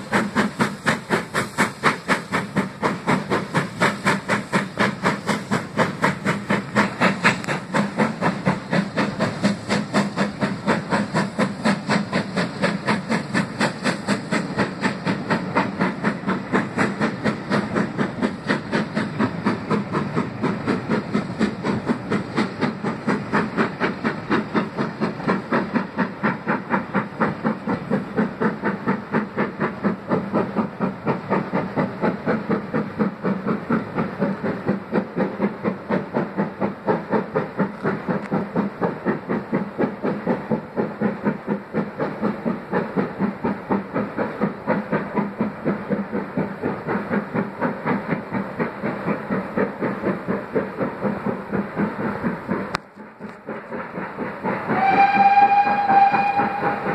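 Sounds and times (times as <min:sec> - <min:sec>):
steam locomotive exhaust beats: 0:00.0 - 0:56.9.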